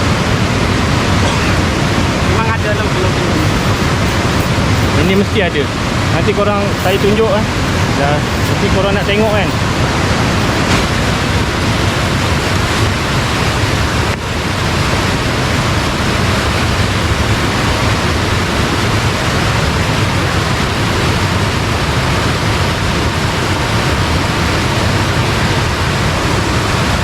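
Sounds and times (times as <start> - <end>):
fast-flowing water rushing: 0.0 - 27.0.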